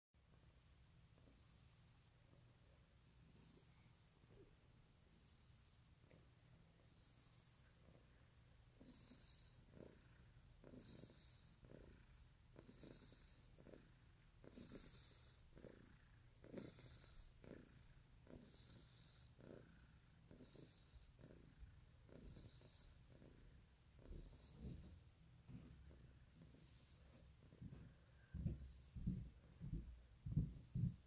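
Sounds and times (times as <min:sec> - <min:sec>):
cat purring: 0:00.2 - 0:31.0.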